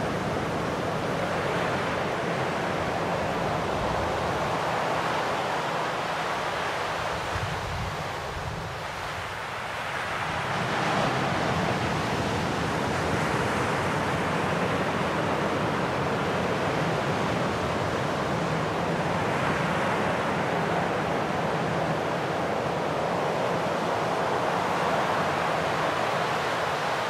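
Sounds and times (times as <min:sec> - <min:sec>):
sea surf washing over shore: 0:00.0 - 0:27.0.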